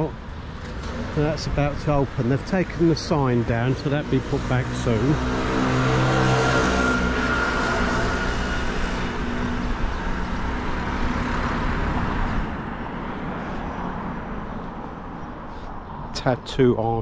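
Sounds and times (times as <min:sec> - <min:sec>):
car passing: 0:00.0 - 0:16.8
street background noise: 0:00.0 - 0:17.0.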